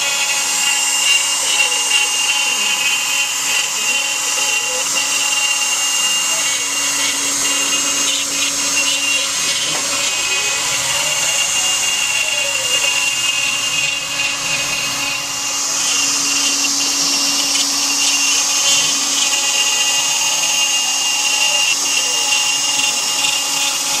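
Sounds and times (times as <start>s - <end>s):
axis drives whining in pitch: 0.0s - 24.0s
router spindle whine: 0.0s - 24.0s.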